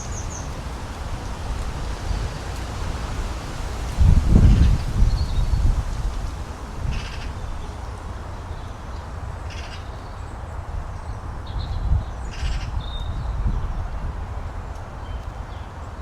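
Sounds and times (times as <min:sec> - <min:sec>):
wind on microphone: 0:00.0 - 0:08.3, 0:10.6 - 0:15.8.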